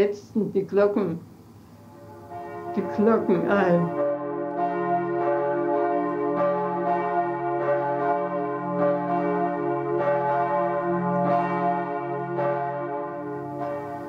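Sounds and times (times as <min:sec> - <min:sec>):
church bells pealing: 0:01.8 - 0:14.0.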